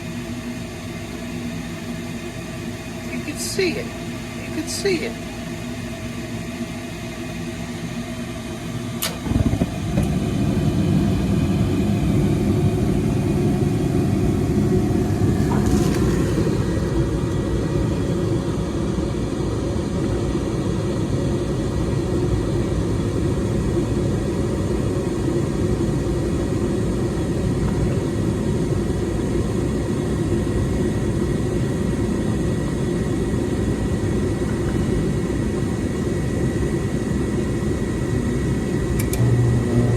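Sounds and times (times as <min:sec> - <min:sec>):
furnace blower rushing air: 0:00.0 - 0:39.9.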